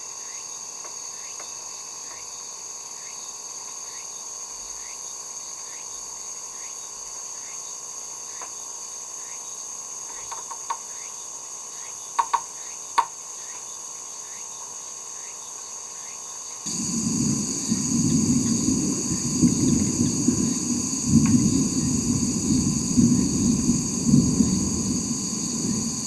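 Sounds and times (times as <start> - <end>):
insects trilling: 0.2 - 26.0.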